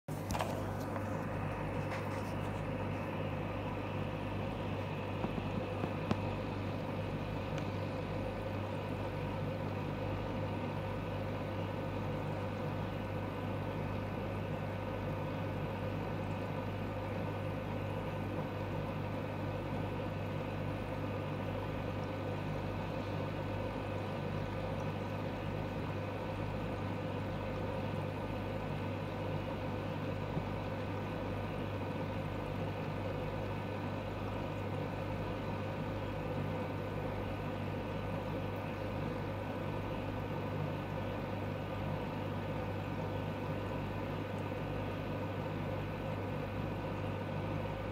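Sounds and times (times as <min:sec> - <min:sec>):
low electrical hum: 0:00.1 - 0:47.9.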